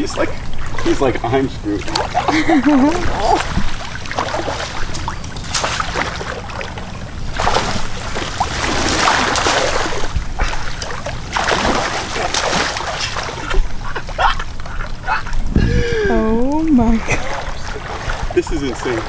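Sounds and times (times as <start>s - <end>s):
wading through shallow water: 0.0s - 19.0s.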